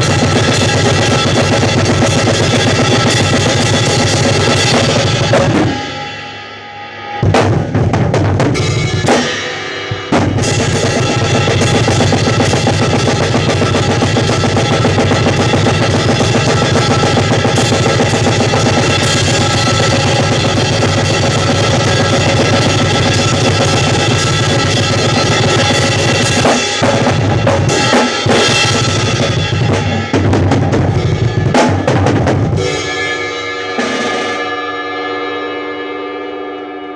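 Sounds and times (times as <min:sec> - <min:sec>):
drum kit playing: 0:00.0 - 0:35.9.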